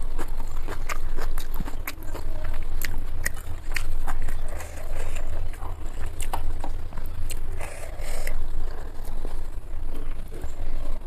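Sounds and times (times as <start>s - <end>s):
close chewing: 0.0s - 11.0s
low hum: 0.0s - 11.0s.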